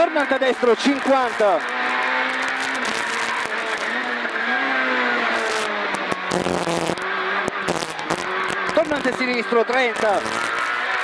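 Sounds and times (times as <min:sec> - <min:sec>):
car engine pulling hard: 0:00.0 - 0:11.0.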